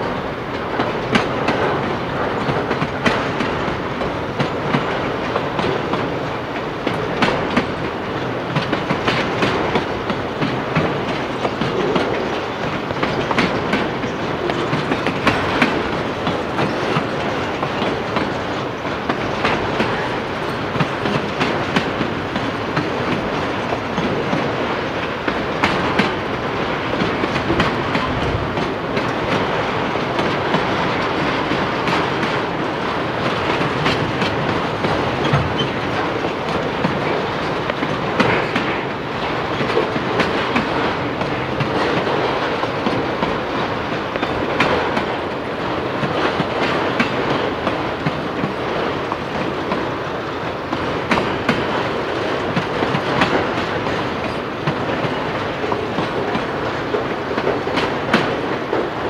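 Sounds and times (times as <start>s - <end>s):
train wheels rumbling on rail: 0.0s - 59.0s
wheels clacking over rail joints: 0.0s - 59.0s.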